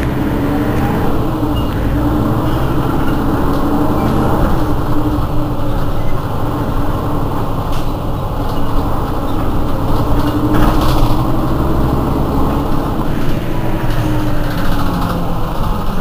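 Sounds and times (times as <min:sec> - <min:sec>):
bus engine idling: 0:00.0 - 0:16.0.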